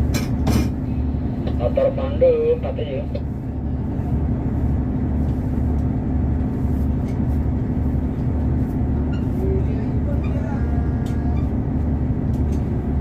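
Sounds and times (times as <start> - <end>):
diesel boat engine droning: 0.0 - 13.0.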